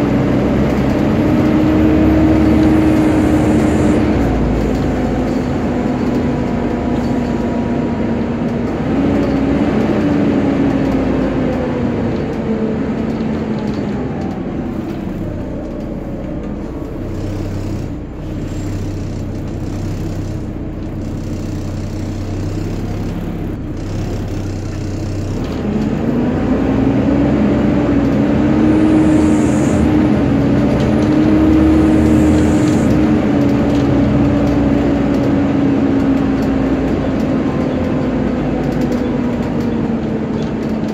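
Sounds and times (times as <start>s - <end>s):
bus engine running: 0.0s - 40.9s
whining cooling fan: 0.0s - 40.9s.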